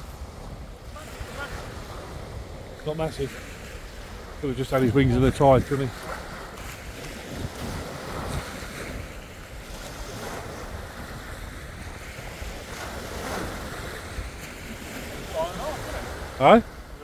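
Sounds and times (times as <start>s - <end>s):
waves washing over shingle: 0.0s - 17.0s
wind buffeting microphone: 0.0s - 17.0s.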